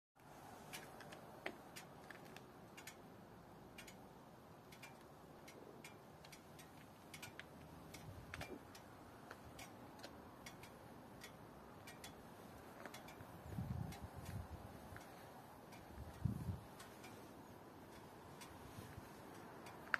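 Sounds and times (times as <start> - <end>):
faint uneven ticking clicks: 0.2 - 19.9.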